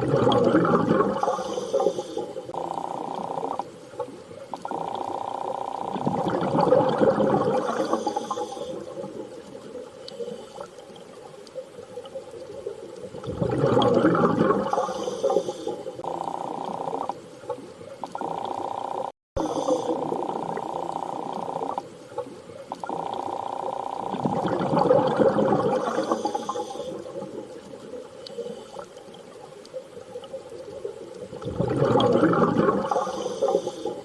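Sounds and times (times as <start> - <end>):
underwater rushing water swells: 0.0 - 18.7, 19.4 - 34.0.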